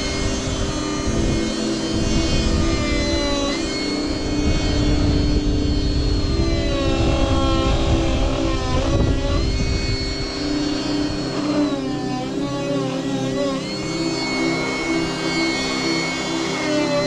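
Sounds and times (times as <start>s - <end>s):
chainsaw running at high revs: 0.0s - 17.0s.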